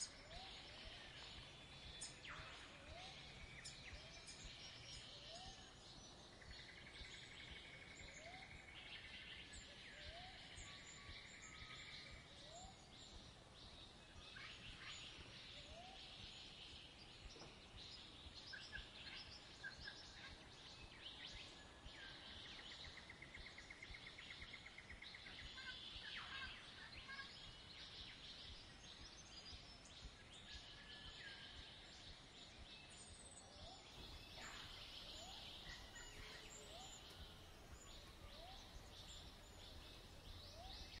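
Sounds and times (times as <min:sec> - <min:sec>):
faint birdsong: 0:00.0 - 0:41.0.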